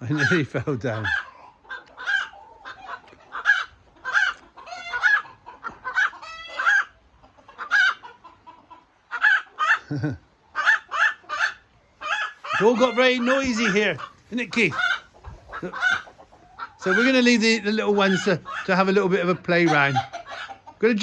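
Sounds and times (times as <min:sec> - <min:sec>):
chickens clucking and cackling: 0:00.0 - 0:21.0.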